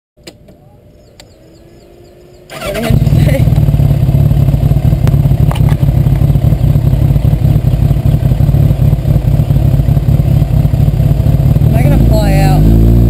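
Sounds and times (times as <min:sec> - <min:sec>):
motorcycle engine idling: 0:00.6 - 0:13.0.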